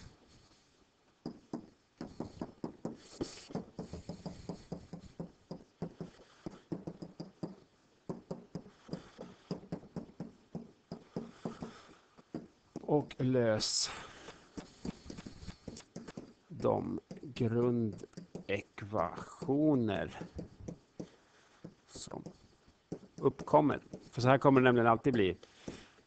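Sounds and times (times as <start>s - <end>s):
stylus tapping and scratching: 1.2s - 26.0s.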